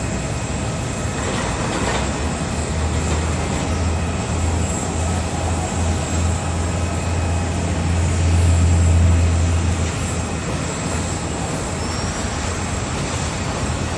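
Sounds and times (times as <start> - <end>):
constant whine: 0.0 - 13.9
jet airliner low hum: 0.0 - 13.9.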